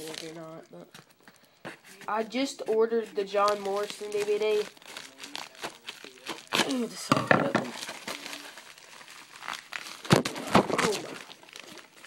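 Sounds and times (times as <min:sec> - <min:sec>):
packaging crinkling: 0:00.0 - 0:01.5, 0:03.3 - 0:12.0.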